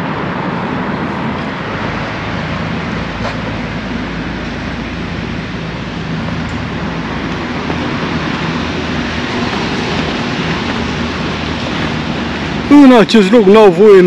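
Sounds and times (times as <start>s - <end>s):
low engine hum: 0.0s - 14.0s
road traffic noise: 0.0s - 14.0s.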